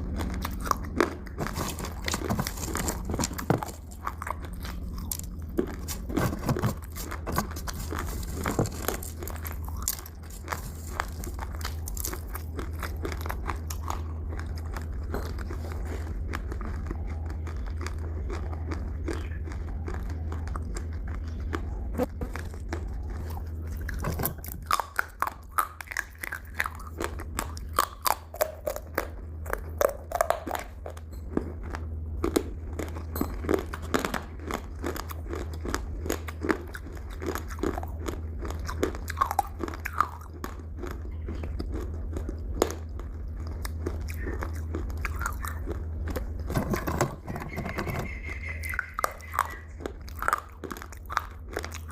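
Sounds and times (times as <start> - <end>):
chewing crunchy food: 0.0 - 51.9
low hum: 0.0 - 51.9.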